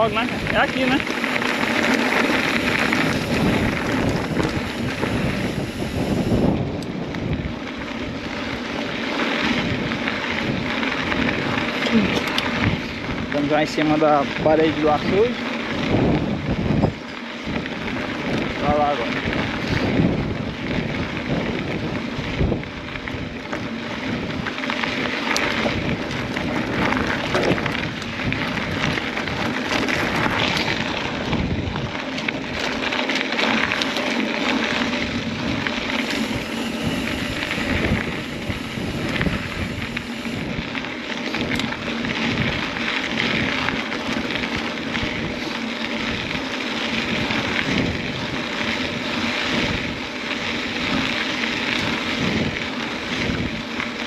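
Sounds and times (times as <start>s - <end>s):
wind on microphone: 0.0s - 32.6s, 34.7s - 54.0s
bike knocking and rattling: 0.0s - 54.0s.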